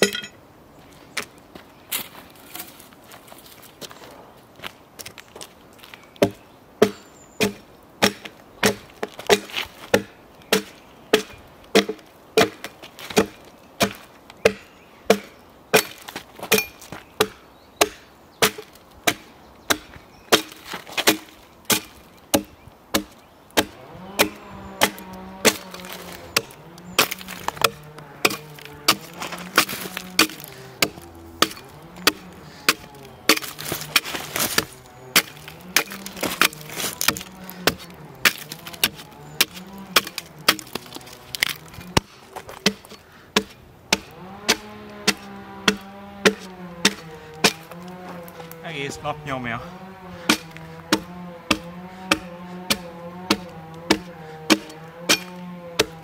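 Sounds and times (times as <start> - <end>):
axe chopping log: 6.2 - 56.0.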